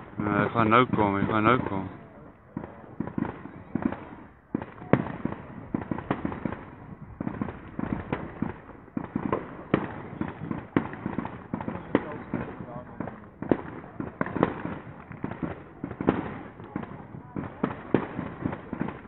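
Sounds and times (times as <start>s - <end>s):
fireworks banging and crackling: 0.0s - 19.0s.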